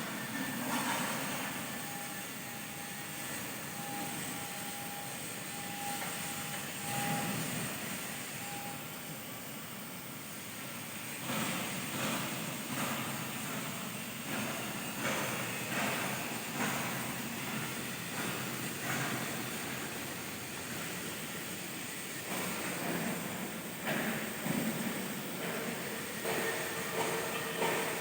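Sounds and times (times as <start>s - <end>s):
plate-cutting machine hissing: 0.1s - 9.0s, 10.6s - 28.0s.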